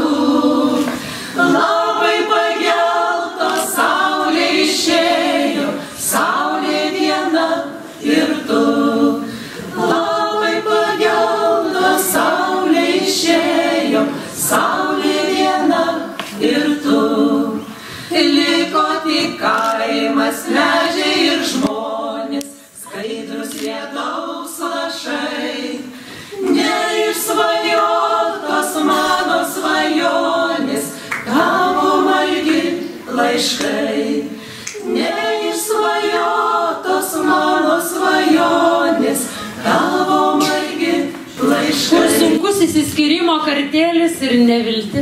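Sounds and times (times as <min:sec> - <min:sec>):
women singing in harmony: 0:00.0 - 0:43.0.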